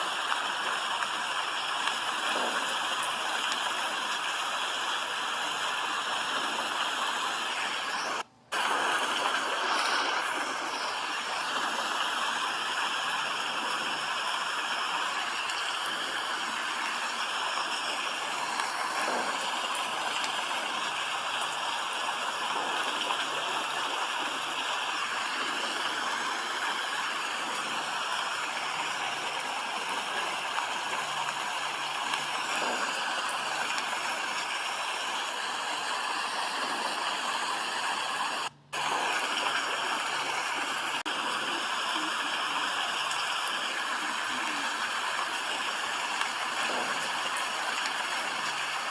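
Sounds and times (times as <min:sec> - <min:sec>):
steady rain hissing: 0:00.0 - 0:48.9.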